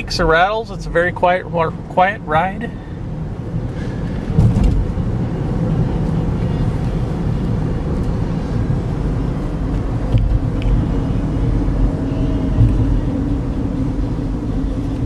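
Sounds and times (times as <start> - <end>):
faint engine hum: 0.0 - 15.0
road and tyre rumble: 0.0 - 15.0.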